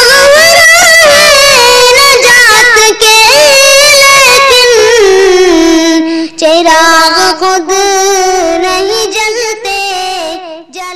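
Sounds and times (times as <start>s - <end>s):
high voice singing devotional song: 0.0s - 10.9s.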